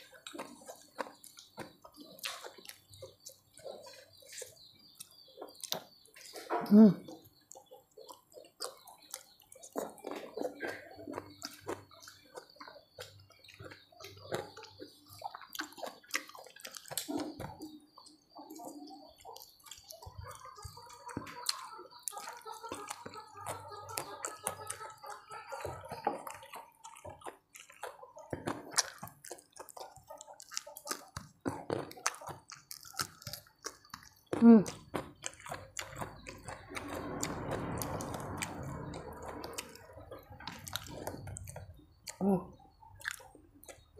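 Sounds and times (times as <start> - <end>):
wet chewing and mouth noises: 0.0 - 43.9.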